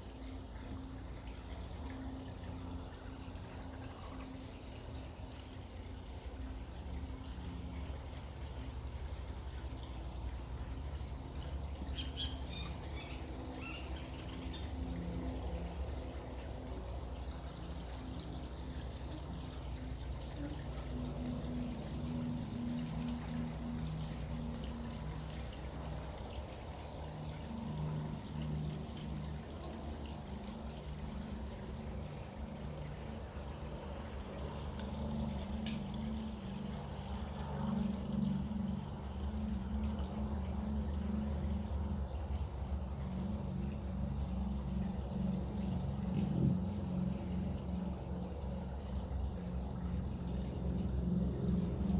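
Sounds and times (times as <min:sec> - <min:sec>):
water trickling: 0:00.0 - 0:51.9.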